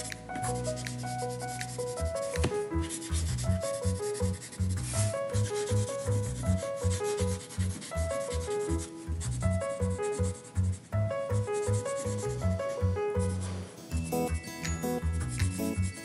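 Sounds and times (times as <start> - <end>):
pencil shading on paper: 0.0 - 13.5, 15.4 - 16.0.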